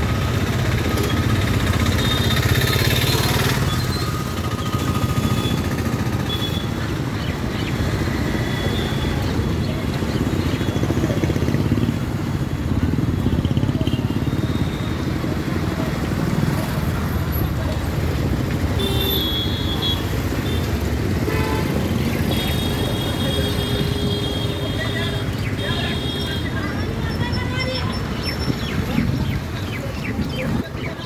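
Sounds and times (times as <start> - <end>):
road traffic with motorcycles: 0.0 - 31.0.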